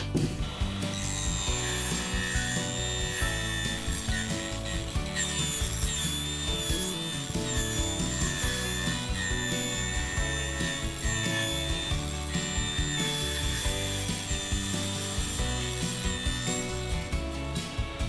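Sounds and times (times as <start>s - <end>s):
background music: 0.0s - 18.0s
power tool whining: 0.0s - 18.0s.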